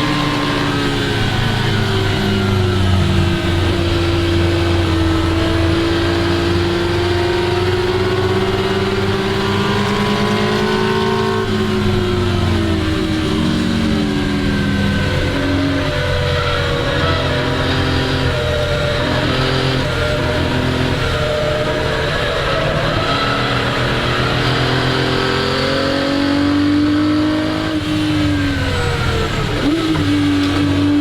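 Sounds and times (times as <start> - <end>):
car engine running under load: 0.0 - 31.0.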